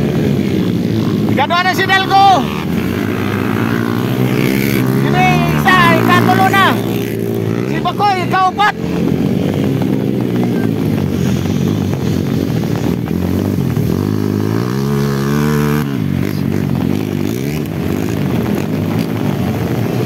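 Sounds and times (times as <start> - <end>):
dirt bike engines running hard: 0.0 - 20.0.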